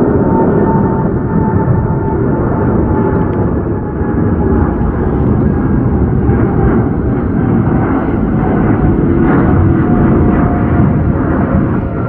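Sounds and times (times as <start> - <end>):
faint engine whine: 0.0 - 12.0
jet engines rumbling: 0.0 - 12.0.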